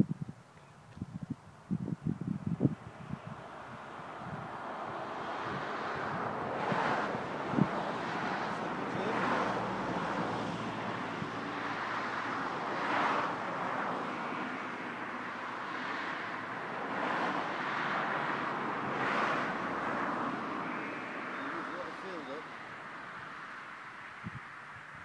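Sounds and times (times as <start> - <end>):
wind gusts rushing: 0.0 - 25.0.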